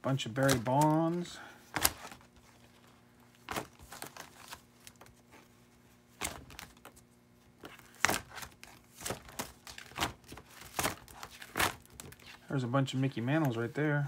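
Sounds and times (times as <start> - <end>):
plastic sleeves crinkling: 0.1 - 14.0.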